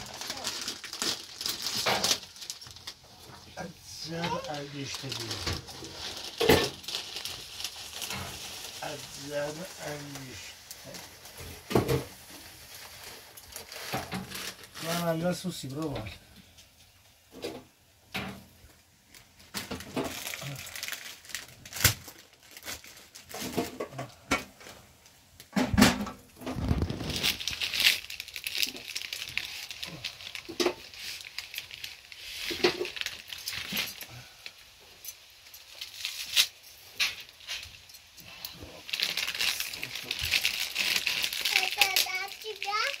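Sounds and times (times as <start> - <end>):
plastic packet crinkling: 0.0 - 16.0, 19.1 - 24.8, 26.4 - 43.0.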